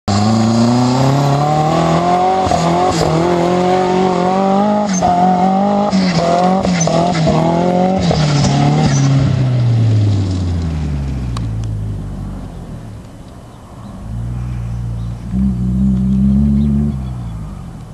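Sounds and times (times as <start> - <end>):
truck engine revving: 0.1 - 12.6, 14.0 - 17.9.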